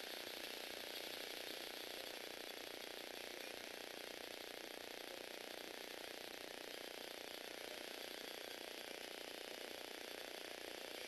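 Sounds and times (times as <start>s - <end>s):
toy car motor and gears: 0.0s - 11.0s.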